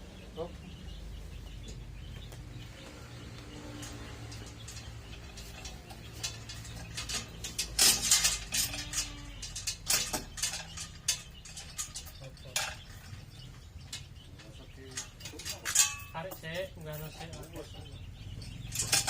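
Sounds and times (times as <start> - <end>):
chain clinking and clanking: 3.4 - 19.0.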